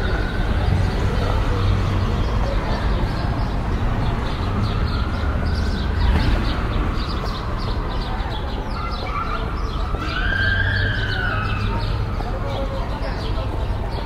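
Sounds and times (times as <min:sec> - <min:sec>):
city traffic rumble: 0:00.0 - 0:14.0
small birds chirping: 0:00.5 - 0:14.0.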